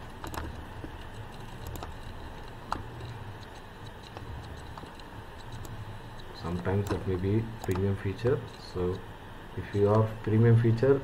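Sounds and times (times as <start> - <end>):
computer mouse clicks: 0.0 - 9.0
faint low hum: 0.0 - 11.0.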